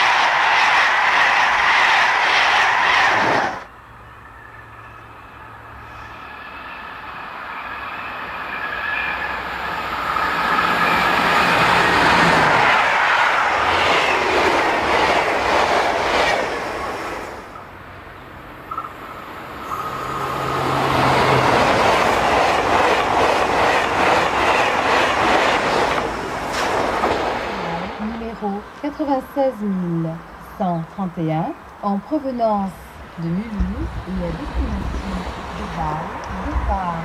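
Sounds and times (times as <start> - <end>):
electric train passing at speed: 0.0 - 37.0
loud passing train: 0.0 - 37.0.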